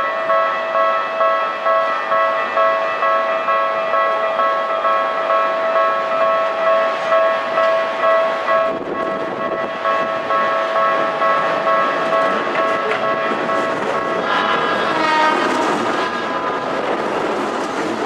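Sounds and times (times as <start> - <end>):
level-crossing warning bell: 0.0 - 18.0
train rumbling: 0.0 - 18.0.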